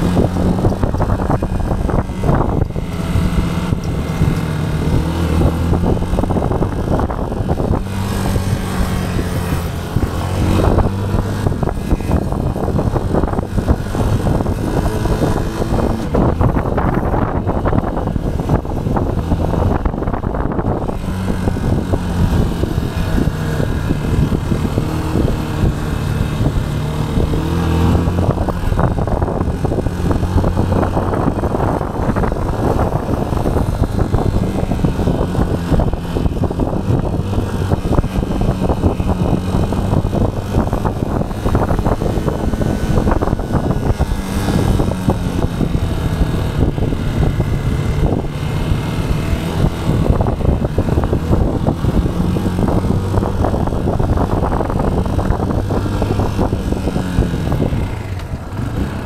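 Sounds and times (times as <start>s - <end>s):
motorcycle engine revving: 0.0s - 59.0s
wind rushing over microphone: 0.0s - 59.0s.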